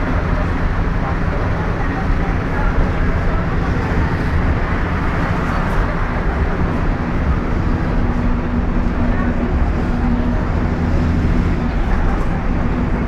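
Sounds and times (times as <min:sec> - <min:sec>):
bus engine drone: 0:00.0 - 0:13.0
road and rattle noise: 0:00.0 - 0:13.0.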